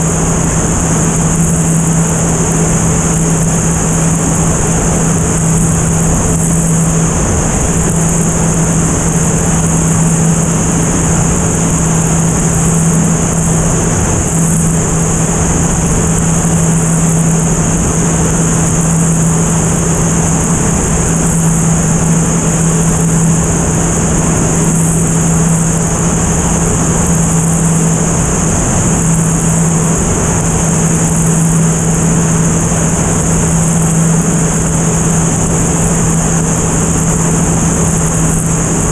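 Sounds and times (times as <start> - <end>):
propeller aircraft engine drone: 0.0 - 38.9
wind rushing over microphone: 0.0 - 38.9.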